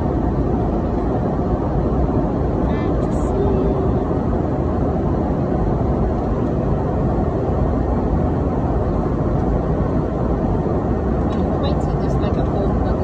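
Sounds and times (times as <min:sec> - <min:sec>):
airliner cabin engine rush: 0:00.0 - 0:13.0.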